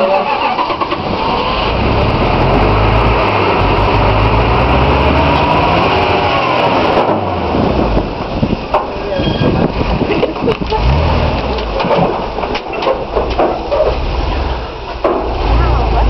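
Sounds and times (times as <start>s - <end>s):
truck engine revving hard: 0.0s - 8.6s, 9.6s - 16.0s.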